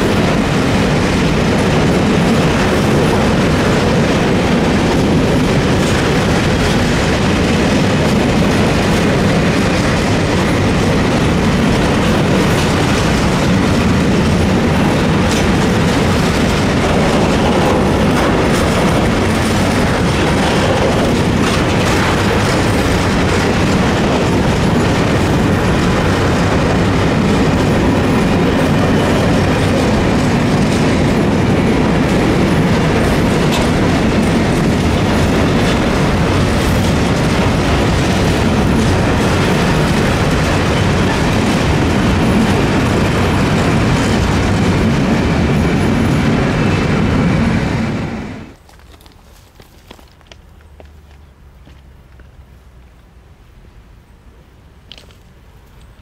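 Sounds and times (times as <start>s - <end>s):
train wheels clattering on rails: 0.0s - 52.6s.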